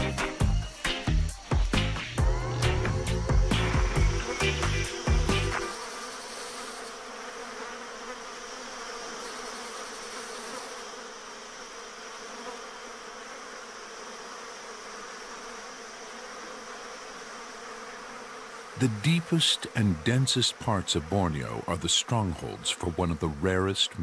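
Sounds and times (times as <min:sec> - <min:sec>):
insects buzzing drone: 0:00.0 - 0:24.0.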